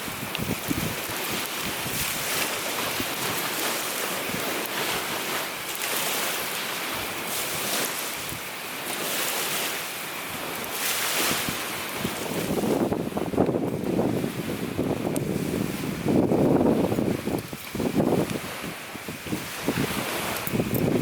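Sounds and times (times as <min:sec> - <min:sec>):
strong wind gusts: 0:00.0 - 0:21.0
wind buffeting the microphone: 0:00.0 - 0:21.0.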